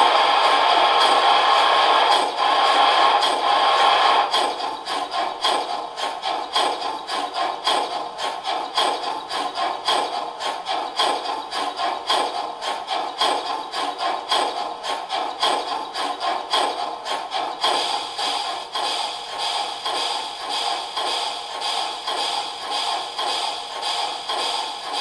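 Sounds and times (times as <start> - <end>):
model steam locomotive chuffing: 0.0 - 25.0.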